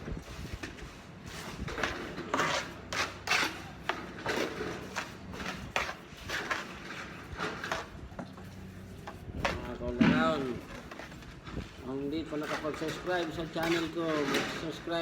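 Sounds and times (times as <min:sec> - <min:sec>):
plastering tool scraping cement: 0:00.2 - 0:15.0.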